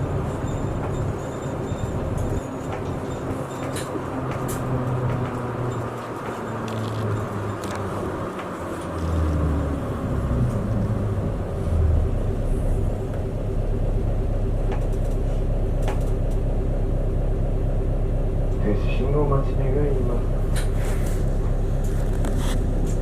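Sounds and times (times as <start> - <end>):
bus engine humming: 0.0 - 23.0
road noise: 0.0 - 23.0.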